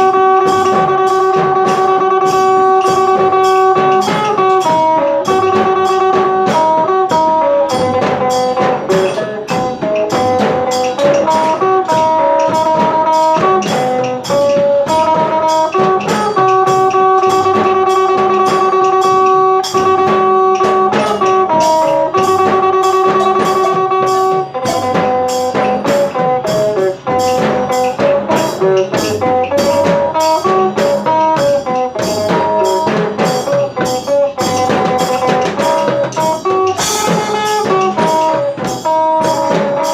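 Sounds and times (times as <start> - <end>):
steady drum beat: 0.0 - 39.9.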